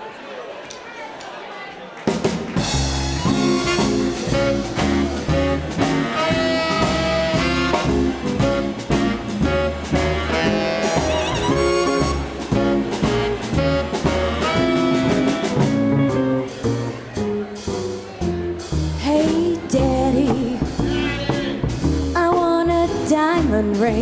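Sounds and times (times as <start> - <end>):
swing band playing: 2.1 - 24.0.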